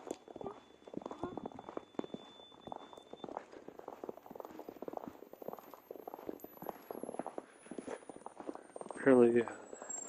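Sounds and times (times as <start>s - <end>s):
footsteps on frozen ground: 0.0s - 10.0s.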